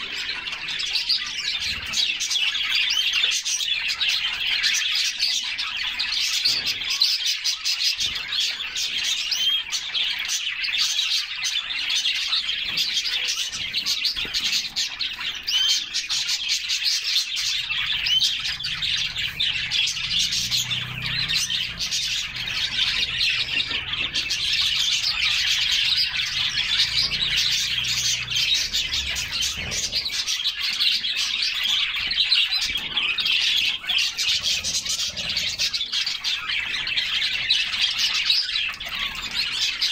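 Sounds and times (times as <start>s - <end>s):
canaries chirping and singing: 0.0s - 39.9s.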